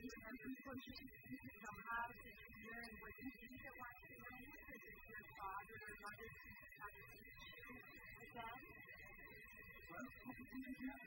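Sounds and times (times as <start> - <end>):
steady high-pitched tone: 0.0 - 11.0.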